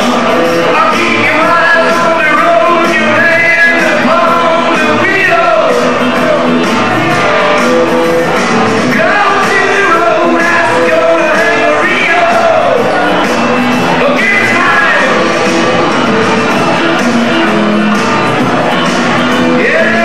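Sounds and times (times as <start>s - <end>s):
loud music with singing: 0.0s - 20.0s.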